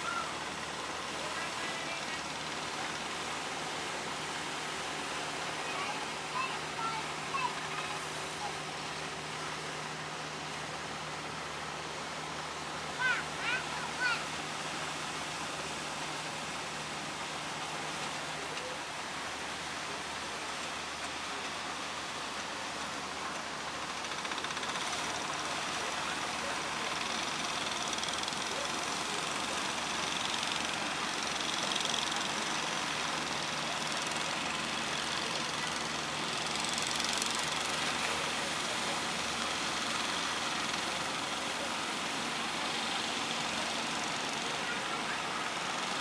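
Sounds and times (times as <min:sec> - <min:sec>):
boat engine running: 0:00.0 - 0:46.0
waves and water rushing: 0:00.0 - 0:46.0.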